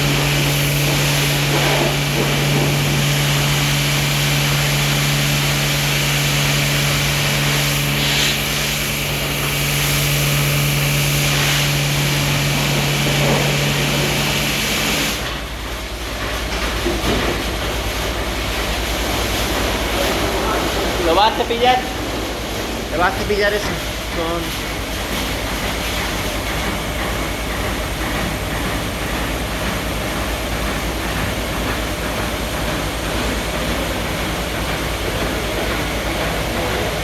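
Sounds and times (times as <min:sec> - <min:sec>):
car wash motor hum: 0:00.0 - 0:37.0.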